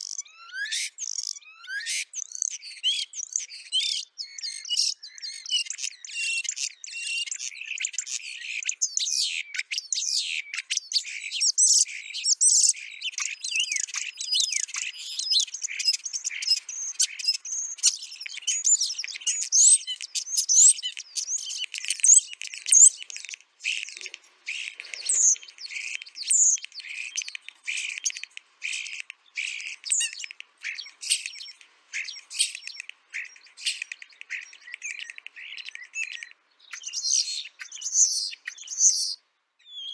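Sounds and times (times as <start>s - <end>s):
starlings chirping and whistling: 0.0s - 39.9s.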